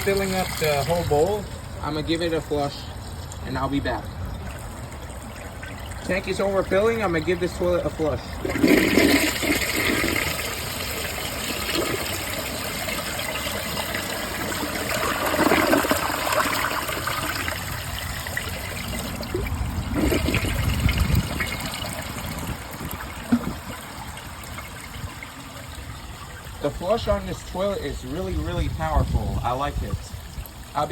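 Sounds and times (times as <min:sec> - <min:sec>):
toilet flushing: 0:00.0 - 0:01.5, 0:02.4 - 0:27.5.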